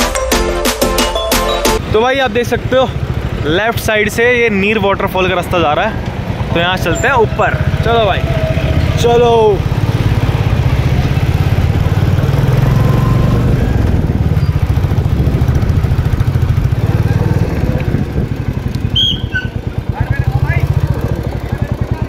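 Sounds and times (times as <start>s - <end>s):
motorcycle engine running: 1.8s - 22.0s.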